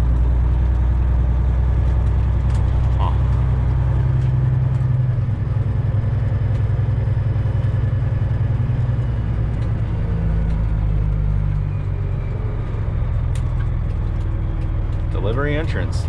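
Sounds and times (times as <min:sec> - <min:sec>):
truck diesel engine hum: 0:00.0 - 0:16.0.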